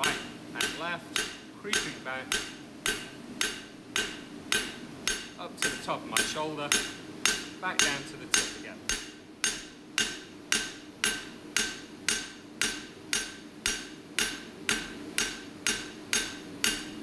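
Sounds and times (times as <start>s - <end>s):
hammer striking hot steel on anvil: 0.0s - 17.0s.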